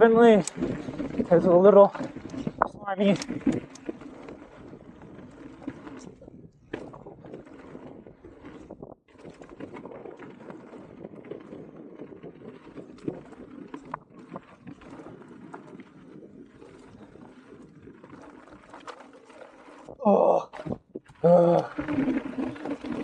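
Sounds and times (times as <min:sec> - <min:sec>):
bike tyre noise on dirt: 0:00.0 - 0:23.0.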